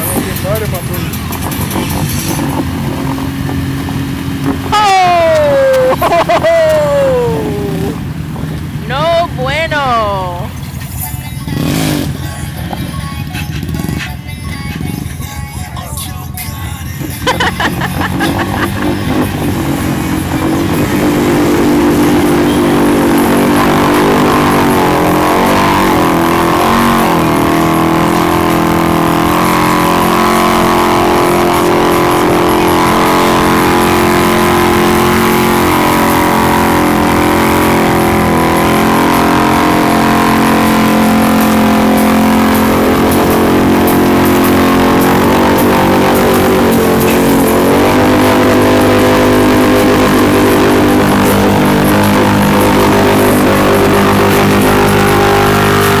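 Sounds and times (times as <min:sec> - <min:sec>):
engine running at high revs: 0:00.0 - 0:56.0.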